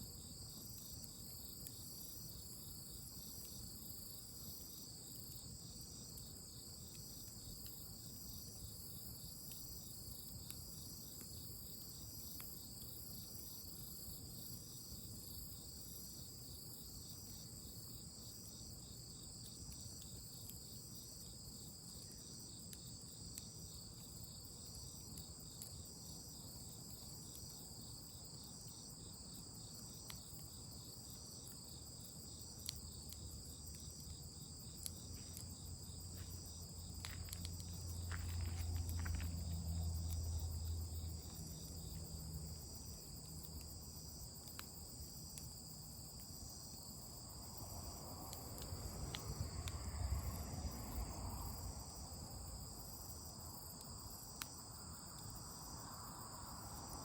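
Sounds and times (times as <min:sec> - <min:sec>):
crickets chirping: 0:00.0 - 0:57.0
faint ticks: 0:00.4 - 0:14.6, 0:16.6 - 0:51.6, 0:52.8 - 0:55.8
cricket trilling in pulses: 0:10.8 - 0:57.0.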